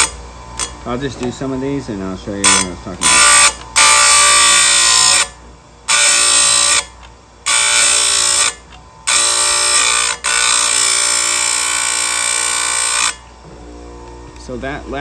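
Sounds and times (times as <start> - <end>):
grinding wheel whining on metal: 0.0 - 6.9, 7.5 - 13.3.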